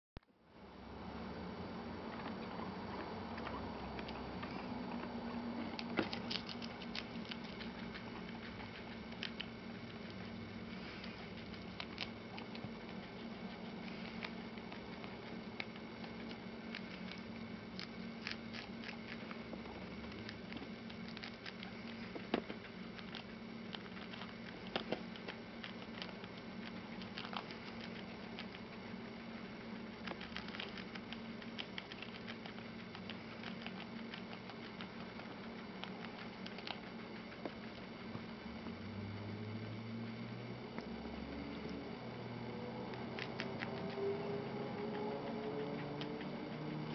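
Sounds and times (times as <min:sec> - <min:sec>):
guinea pigs chewing lettuce: 0:01.0 - 0:46.9.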